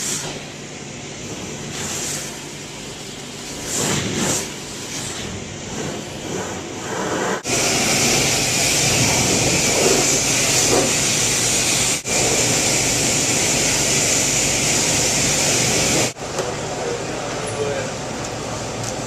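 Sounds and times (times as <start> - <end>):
pressure washer spraying car: 0.0 - 16.2.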